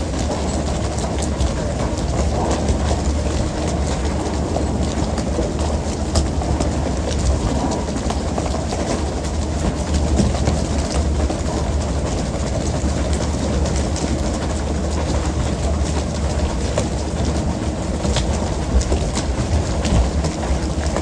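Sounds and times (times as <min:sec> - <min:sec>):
boat engine rumble: 0:00.0 - 0:21.0.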